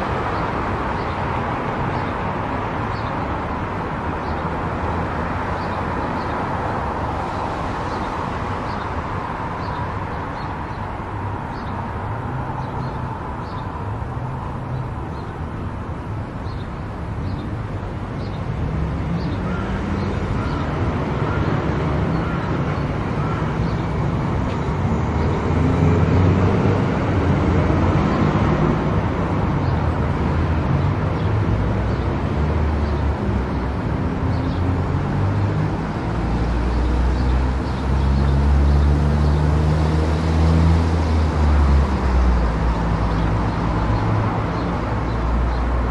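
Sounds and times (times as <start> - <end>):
tyre and road noise: 0.0 - 45.9.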